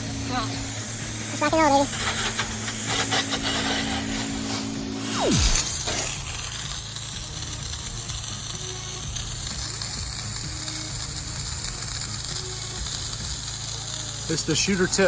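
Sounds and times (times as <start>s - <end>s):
high-pressure water jet hissing: 0.0s - 15.0s
pressure washer engine running: 0.0s - 15.0s.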